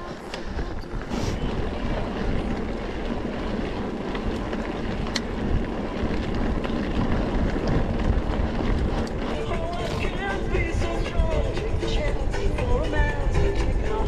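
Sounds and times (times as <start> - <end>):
bike rattles and clicks: 0.0 - 14.0
bike tyres rumbling: 0.0 - 14.0
wind buffeting microphone: 0.0 - 14.0.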